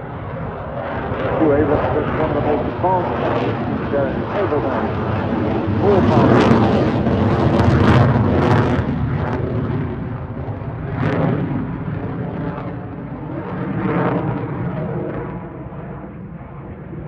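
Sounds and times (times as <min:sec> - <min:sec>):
jet fighter passing: 0:00.0 - 0:17.0.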